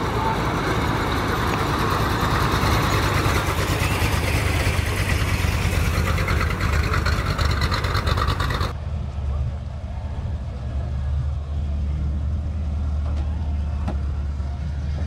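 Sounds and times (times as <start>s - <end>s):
car engine running at low speed: 0.0s - 15.0s.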